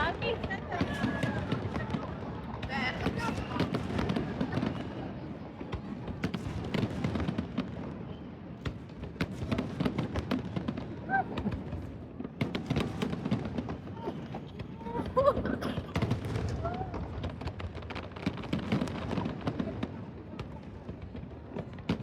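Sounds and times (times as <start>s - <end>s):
fireworks cracking and popping: 0.0s - 22.0s.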